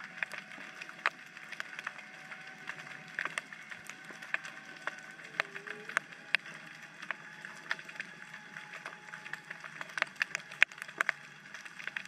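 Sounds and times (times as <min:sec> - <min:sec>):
faint steady hum: 0:00.0 - 0:12.0
underwater clicks and snaps: 0:00.0 - 0:12.0.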